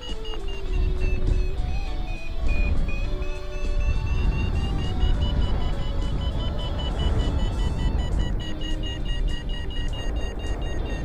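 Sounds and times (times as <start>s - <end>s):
high broken tone: 0.0s - 11.0s
low wind rumble on microphone: 0.0s - 11.0s
music with slow held notes: 0.0s - 11.0s.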